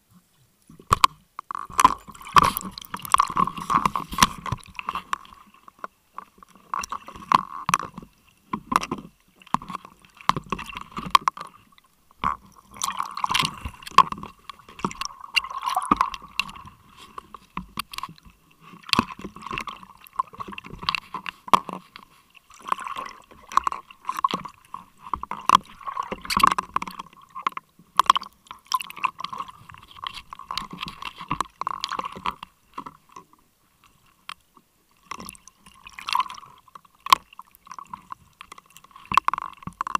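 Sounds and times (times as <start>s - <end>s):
water sloshing and splashing: 0.4s - 39.9s.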